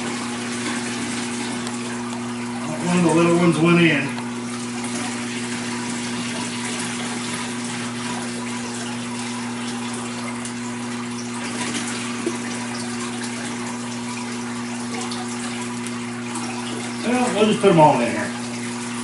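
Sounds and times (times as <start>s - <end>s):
low motor hum: 0.0s - 19.0s
water splashing into aquarium: 0.0s - 19.0s.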